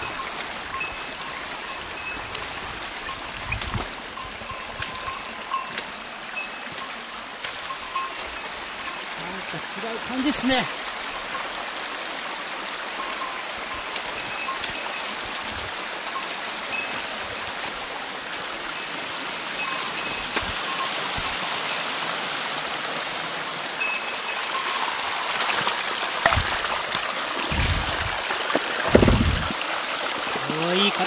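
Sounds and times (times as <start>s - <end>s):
stream water flowing: 0.0s - 31.0s.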